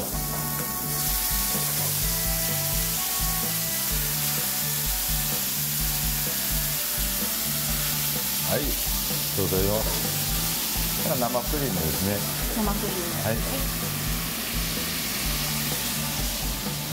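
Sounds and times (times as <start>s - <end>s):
background music with bass line: 0.0s - 16.9s
liquid sizzling in hot pan: 0.0s - 16.9s.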